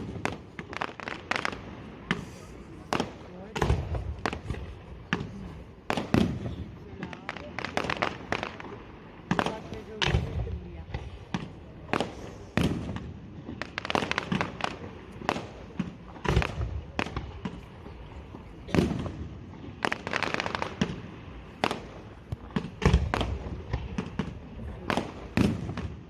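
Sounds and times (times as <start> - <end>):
firework crackles: 0.0 - 26.0.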